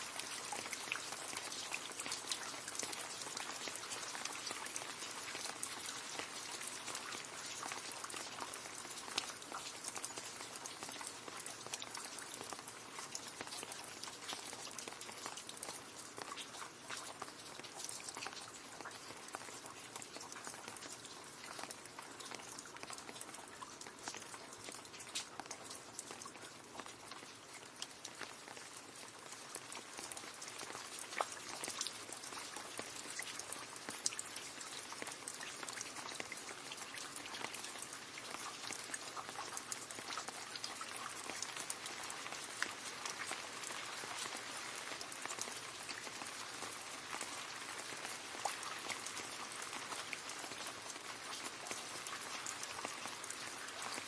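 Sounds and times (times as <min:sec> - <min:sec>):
rain falling into a puddle: 0:00.0 - 0:54.0.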